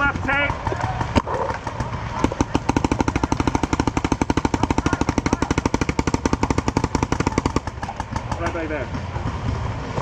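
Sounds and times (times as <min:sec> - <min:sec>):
paintball marker firing rapidly: 0:00.0 - 0:08.6.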